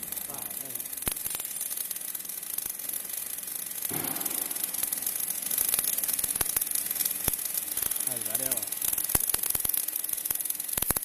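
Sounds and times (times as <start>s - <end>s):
welding arc crackling hiss: 0.0s - 11.0s.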